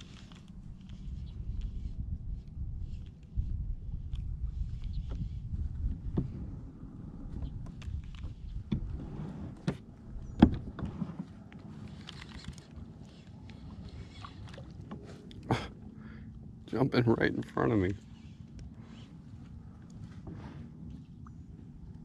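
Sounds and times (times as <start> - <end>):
wind and water rumble: 0.0 - 22.0.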